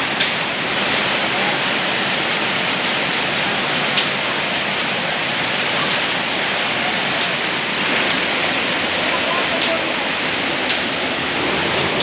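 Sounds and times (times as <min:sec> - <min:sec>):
heavy rain and hail: 0:00.0 - 0:12.0.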